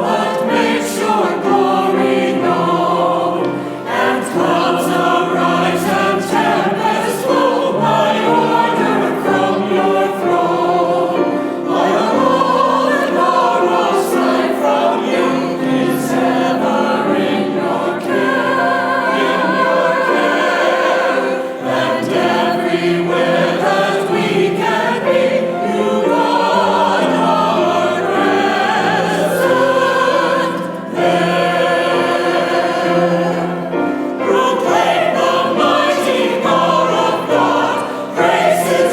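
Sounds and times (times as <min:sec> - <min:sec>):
church choir singing: 0:00.0 - 0:38.9.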